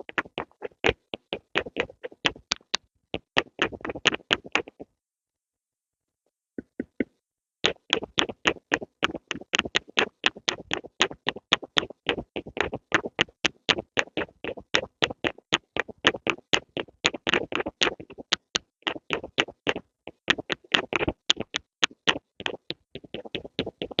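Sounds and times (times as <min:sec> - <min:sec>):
rapid pencil tapping: 0:00.0 - 0:04.9, 0:06.6 - 0:24.0.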